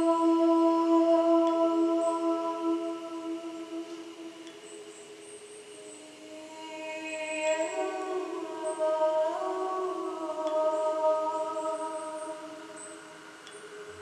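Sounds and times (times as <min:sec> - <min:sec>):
woman singing long wordless tone: 0:00.0 - 0:14.0.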